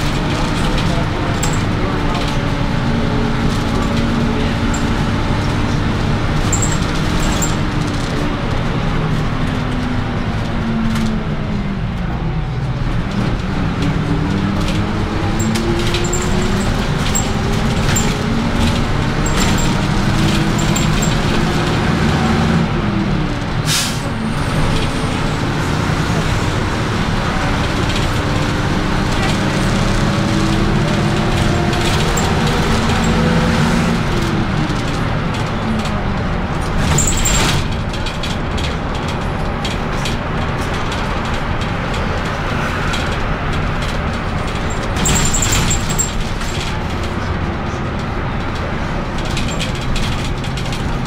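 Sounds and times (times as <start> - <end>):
bus diesel engine: 0.0 - 51.0.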